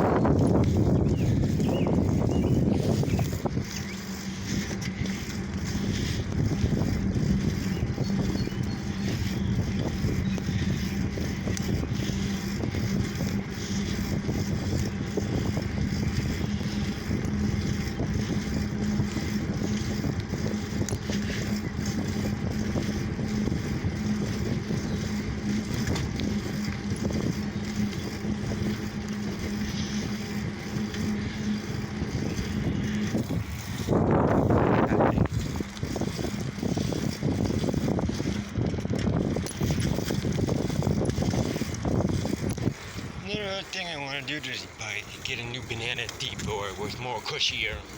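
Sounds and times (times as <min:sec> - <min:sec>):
bicycle rolling noise: 0:00.0 - 0:47.9
steady low hum: 0:00.0 - 0:47.9
wind rumble on microphone: 0:00.0 - 0:47.9.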